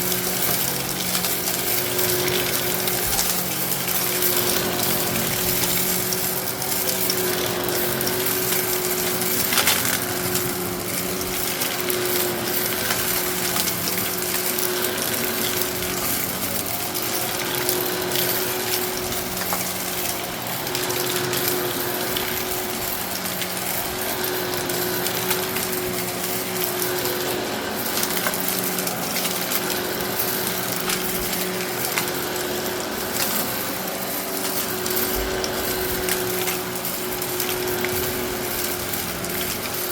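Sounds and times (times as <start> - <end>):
gravel rattling through vacuum head: 0.0 - 39.9
vacuum cleaner motor hum: 0.0 - 39.9.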